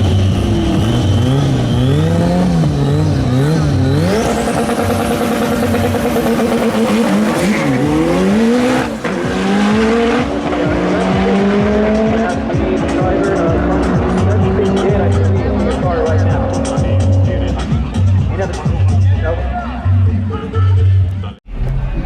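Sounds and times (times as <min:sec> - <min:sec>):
high turbo whine: 0:00.0 - 0:19.2
drag cars revving and launching: 0:00.0 - 0:20.5.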